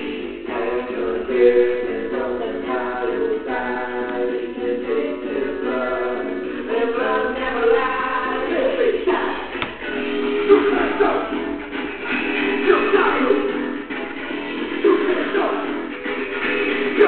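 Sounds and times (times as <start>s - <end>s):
song with singing voices: 0.0s - 17.0s.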